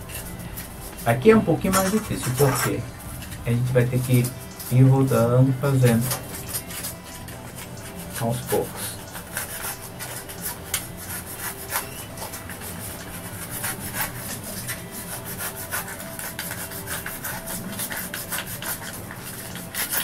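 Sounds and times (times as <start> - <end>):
knife scraping styrofoam: 0.0 - 20.0.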